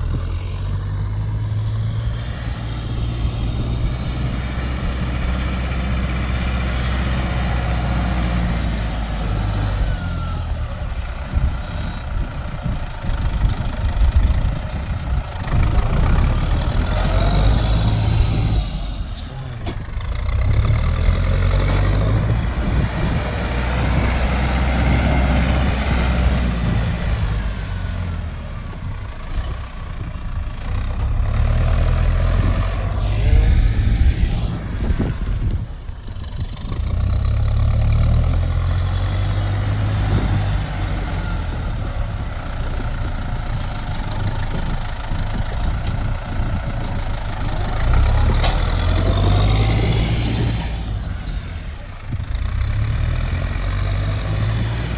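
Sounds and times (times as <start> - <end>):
vehicle engine rumbling: 0.0 - 54.9.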